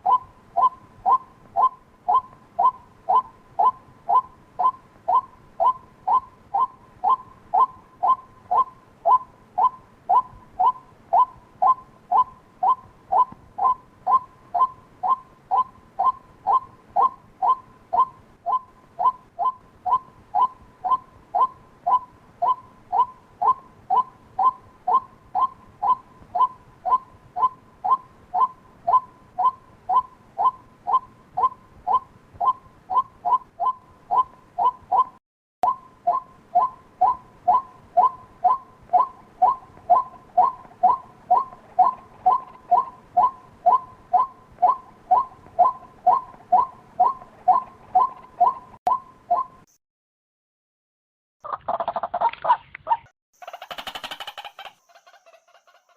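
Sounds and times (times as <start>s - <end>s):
waterhen kwak call: 0.0s - 49.6s.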